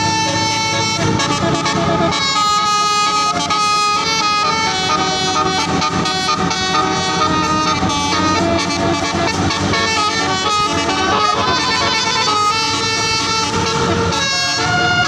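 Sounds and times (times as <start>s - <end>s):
bus noise: 0.0s - 15.0s
multi-tone bus horn tune: 0.0s - 15.0s.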